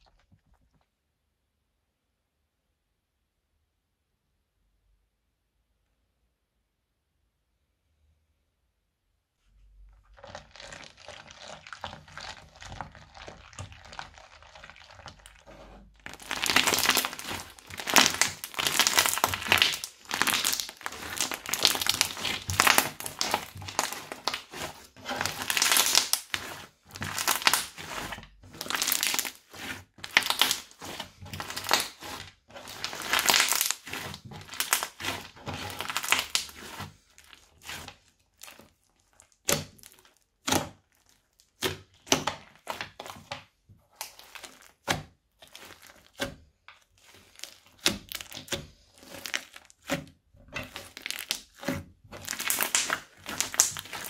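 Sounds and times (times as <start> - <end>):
crunchy slime crackling and popping: 9.8 - 54.0.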